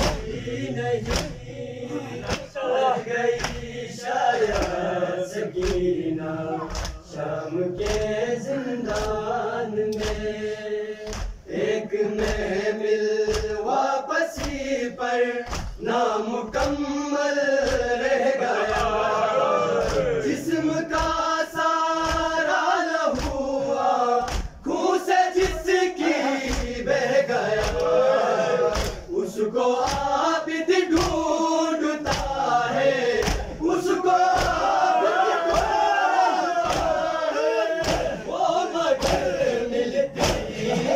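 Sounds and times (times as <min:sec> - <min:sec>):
men chanting in unison: 0:00.0 - 0:40.9
rhythmic chest-beating thuds: 0:00.0 - 0:40.9.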